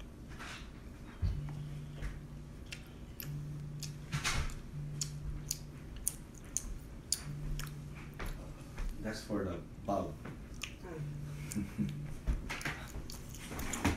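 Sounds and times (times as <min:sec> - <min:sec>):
child chewing: 0:00.0 - 0:09.0, 0:10.4 - 0:13.9
low hum: 0:00.0 - 0:13.9.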